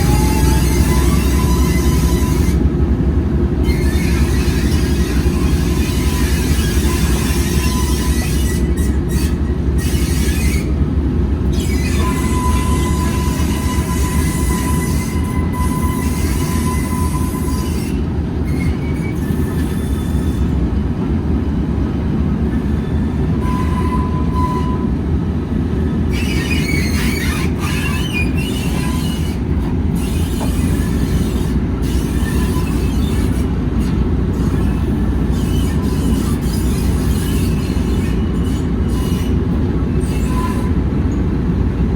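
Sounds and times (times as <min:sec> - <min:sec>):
high wheel squeal: 0:00.0 - 0:02.7, 0:03.6 - 0:10.8, 0:11.4 - 0:21.0, 0:22.5 - 0:25.0, 0:25.7 - 0:41.3
train rumbling on rails: 0:00.0 - 0:41.9.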